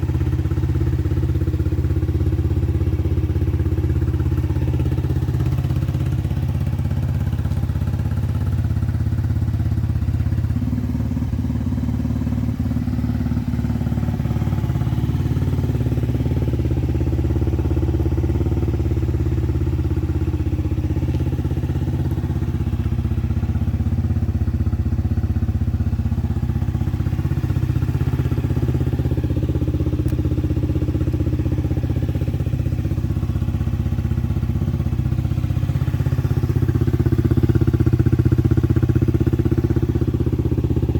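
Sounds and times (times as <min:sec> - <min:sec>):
scooter engine idling: 0:00.0 - 0:40.9.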